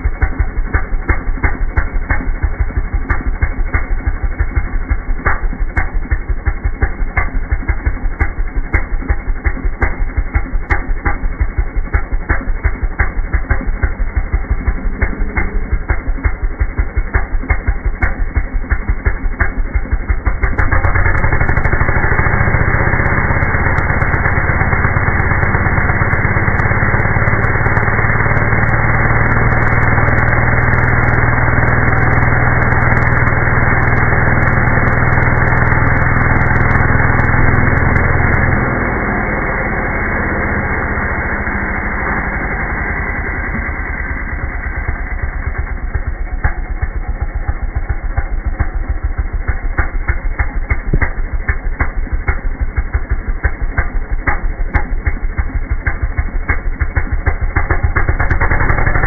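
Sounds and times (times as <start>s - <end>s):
slowed chainsaw engine: 0.0s - 59.0s.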